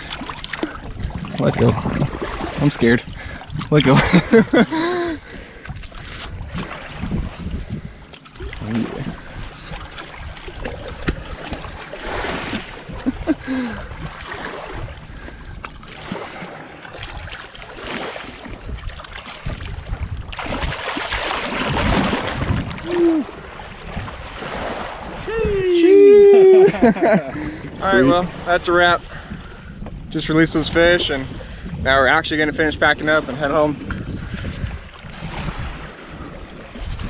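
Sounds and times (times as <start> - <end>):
rush of water: 0.0 - 29.2, 33.0 - 37.0
lake water sloshing and splashing: 0.0 - 37.0.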